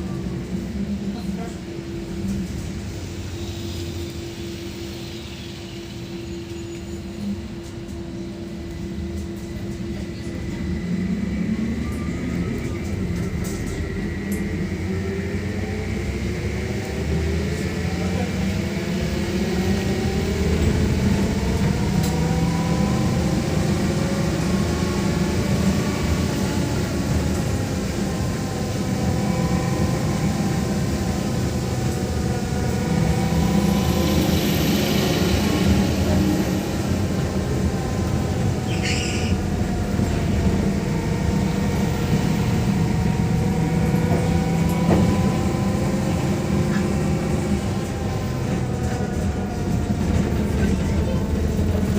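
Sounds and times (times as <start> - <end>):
electric traction motor whine: 0.0 - 51.9.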